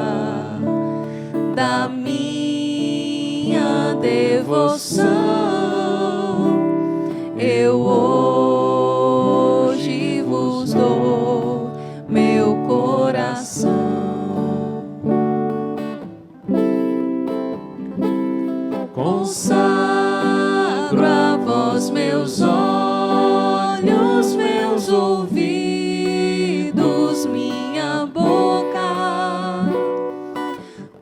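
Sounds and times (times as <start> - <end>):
person singing a hymn: 0.0 - 15.5, 18.7 - 31.0
acoustic guitar: 0.0 - 31.0.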